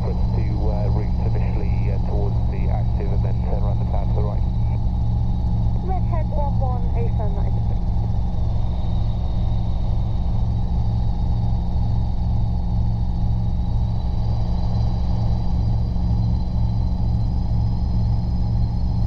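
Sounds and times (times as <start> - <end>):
faint high whine: 0.0 - 19.0
helicopter rotor and engine drone: 0.0 - 19.0.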